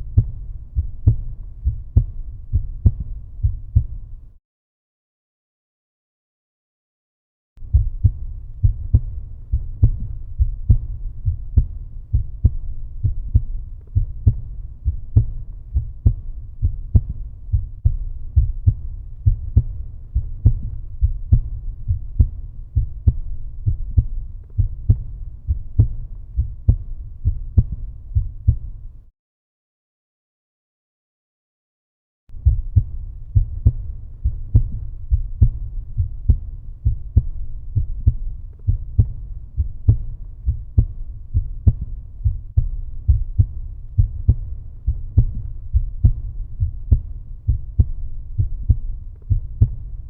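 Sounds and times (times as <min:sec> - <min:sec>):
heartbeat thumping: 0:00.0 - 0:04.3, 0:07.6 - 0:29.0, 0:32.3 - 0:50.0.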